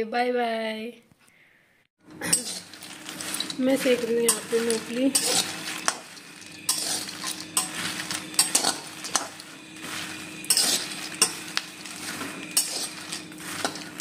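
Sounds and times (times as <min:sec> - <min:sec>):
peanut shells rattling in pan: 0:02.1 - 0:14.0
spatula scraping metal pan: 0:02.2 - 0:14.0.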